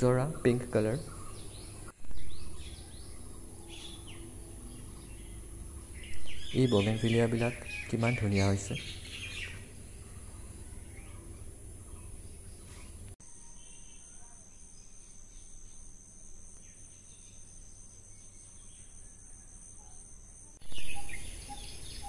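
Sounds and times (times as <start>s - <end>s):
outdoor ambience: 0.0s - 22.0s
insects chirring: 0.1s - 22.0s.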